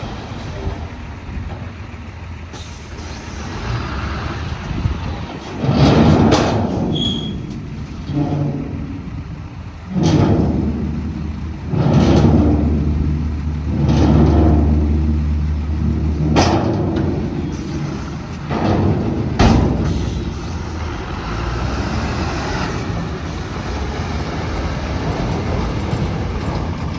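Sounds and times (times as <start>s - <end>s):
heavy engine revving under load: 0.0s - 26.9s.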